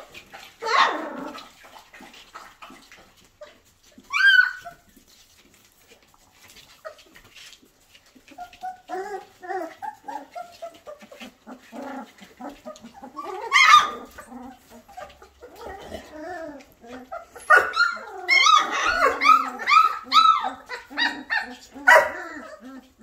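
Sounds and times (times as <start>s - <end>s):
puppies whimpering and squeaking: 0.0s - 23.0s
puppy yelp: 0.4s - 1.6s, 3.4s - 5.2s, 5.8s - 23.0s.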